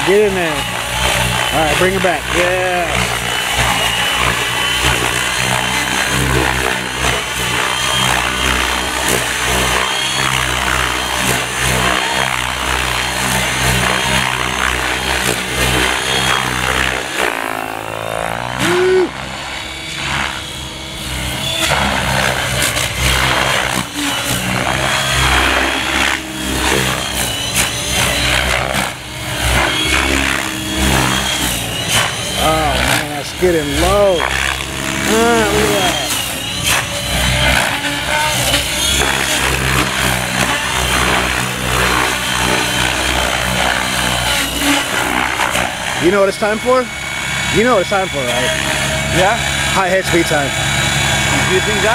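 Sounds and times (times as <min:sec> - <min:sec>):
rc helicopter rotor and motor whine: 0:00.0 - 0:51.9.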